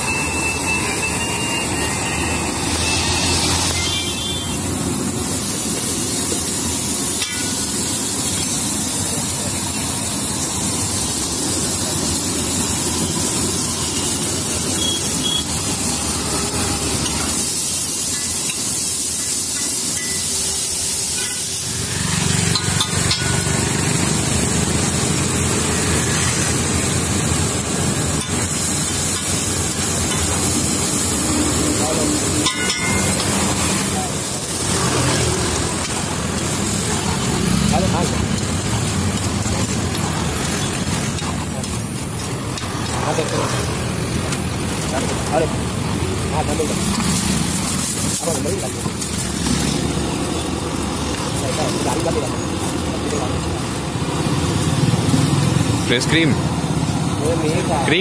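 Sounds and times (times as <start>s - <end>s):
vegetables sizzling on griddle: 0.0s - 58.0s.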